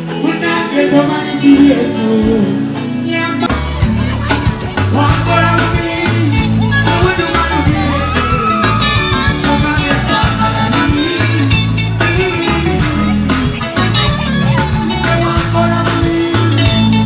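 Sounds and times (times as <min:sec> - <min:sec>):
man singing into a microphone: 0:00.0 - 0:03.8, 0:04.5 - 0:17.0
bass: 0:00.0 - 0:17.0
drums: 0:00.0 - 0:17.0
electric guitar: 0:00.0 - 0:17.0.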